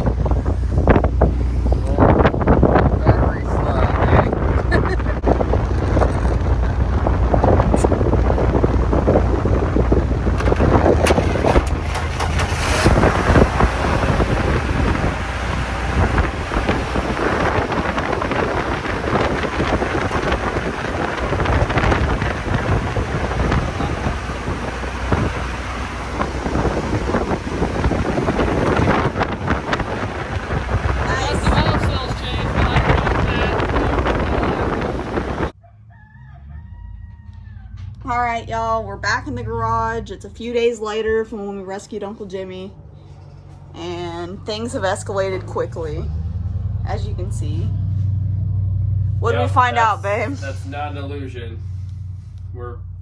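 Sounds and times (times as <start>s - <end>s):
wind buffeting microphone: 0.0s - 35.6s, 36.2s - 52.2s
low rumble: 0.0s - 53.0s.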